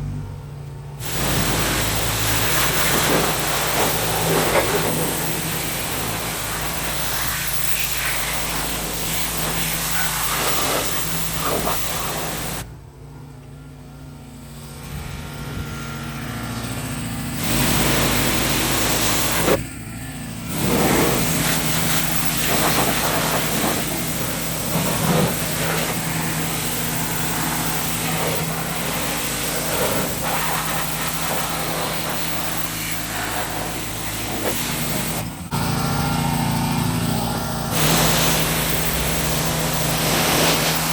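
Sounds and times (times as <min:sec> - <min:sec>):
pressure washer motor drone: 0:00.0 - 0:40.9
water jet hissing on car: 0:01.0 - 0:12.7, 0:14.3 - 0:40.9.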